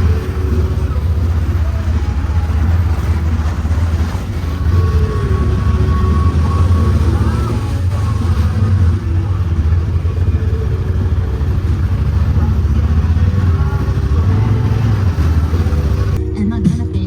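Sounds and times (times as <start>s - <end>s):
music: 0.0s - 17.0s
vehicle engine running: 0.0s - 17.0s.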